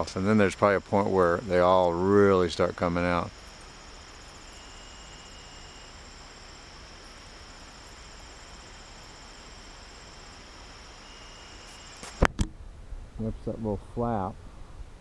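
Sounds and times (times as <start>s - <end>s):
crickets trilling: 0.0s - 12.3s.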